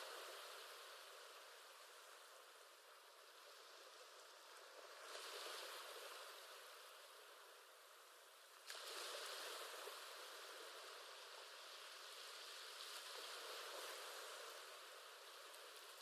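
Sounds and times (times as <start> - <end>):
surf hiss: 0.0 - 16.0.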